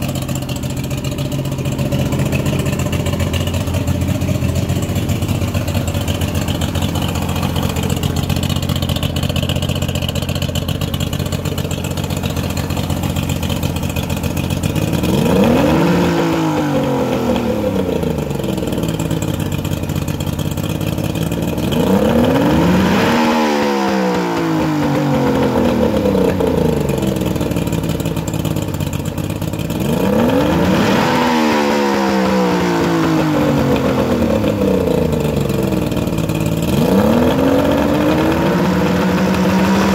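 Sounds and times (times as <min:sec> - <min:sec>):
outboard motor idling and revving: 0:00.0 - 0:39.9.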